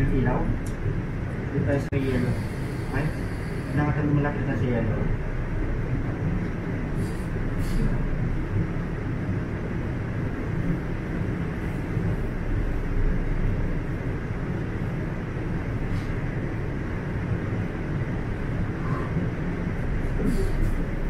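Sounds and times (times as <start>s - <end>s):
subway train humming: 0.0s - 21.0s.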